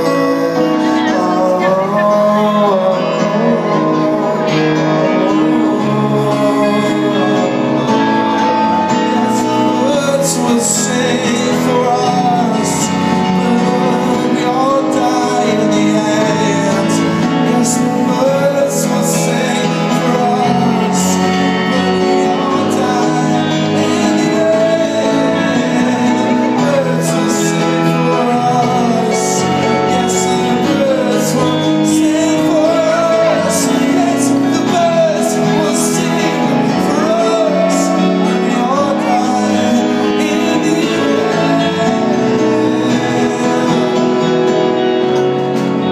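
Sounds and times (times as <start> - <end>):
live band with guitar: 0.0 - 45.9.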